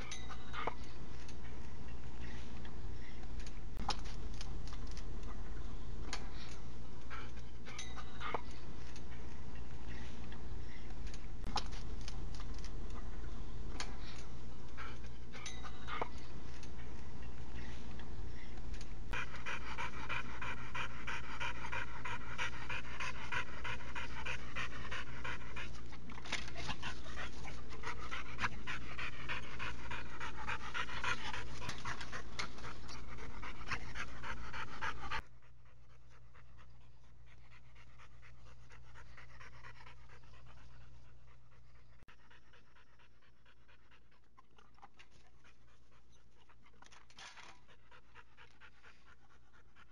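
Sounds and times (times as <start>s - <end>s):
dog panting: 6.1s - 13.2s, 13.8s - 49.9s.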